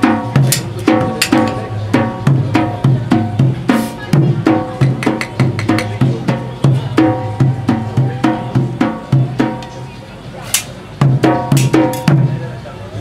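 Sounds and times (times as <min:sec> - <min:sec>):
drum playing rhythm: 0:00.0 - 0:12.4.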